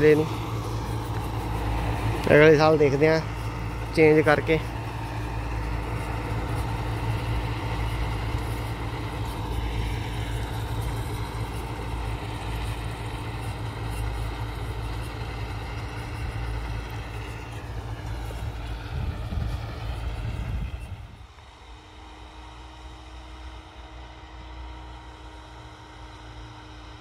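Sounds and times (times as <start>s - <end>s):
rotary seeder through soil: 0.0s - 27.0s
tractor engine running under load: 0.0s - 27.0s.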